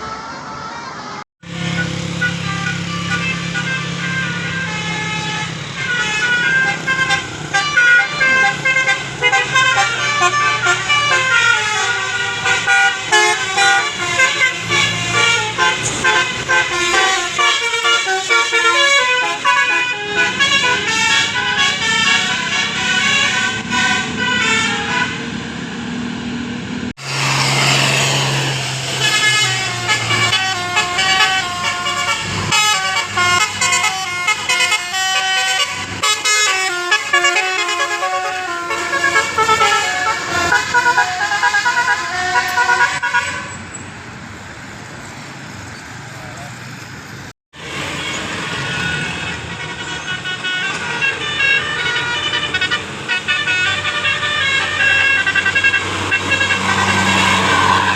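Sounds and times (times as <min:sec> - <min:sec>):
musical bus horns playing tunes: 0:00.0 - 0:25.7, 0:26.9 - 0:43.6, 0:47.5 - 0:57.9.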